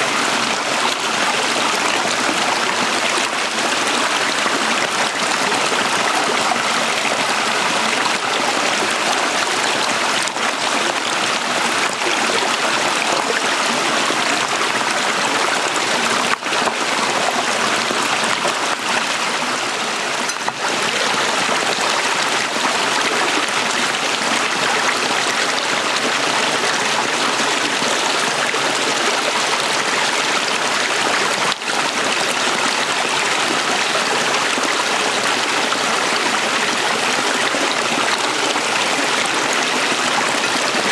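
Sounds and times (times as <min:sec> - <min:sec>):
small stream flowing: 0:00.0 - 0:40.9.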